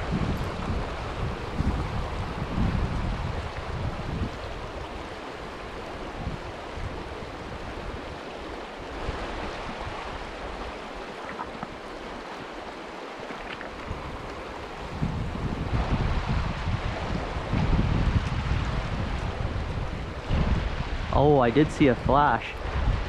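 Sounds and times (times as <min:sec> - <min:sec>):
river water rushing: 0:00.0 - 0:23.0
wind buffeting microphone: 0:00.0 - 0:23.0.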